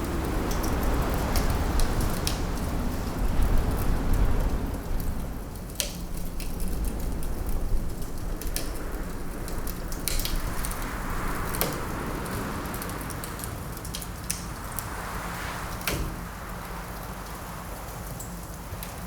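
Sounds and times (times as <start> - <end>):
rushing wind: 0.0 - 19.0
wood fire crackling: 0.0 - 19.0.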